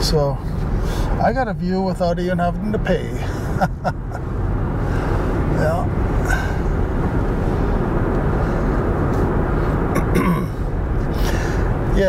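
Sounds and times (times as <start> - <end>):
wind noise in car cabin: 0.0 - 12.0.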